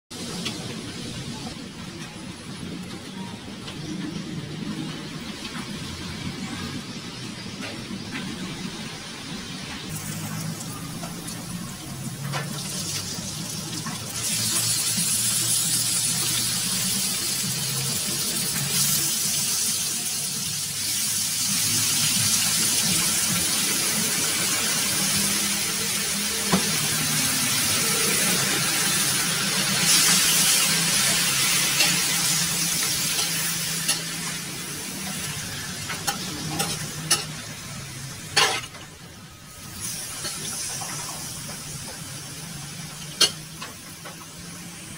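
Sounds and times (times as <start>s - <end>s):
food sizzling in a wok: 8.5s - 44.9s.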